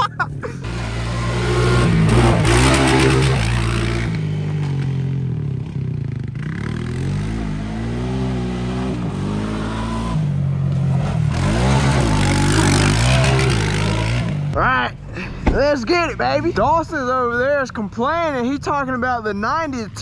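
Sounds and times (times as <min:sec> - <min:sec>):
off-road vehicle engines revving: 0:00.0 - 0:17.4.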